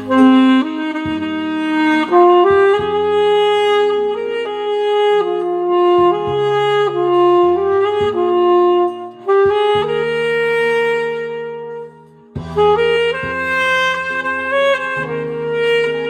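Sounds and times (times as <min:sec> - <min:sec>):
musical accompaniment: 0:00.0 - 0:16.0
saxophone melody: 0:00.0 - 0:16.0.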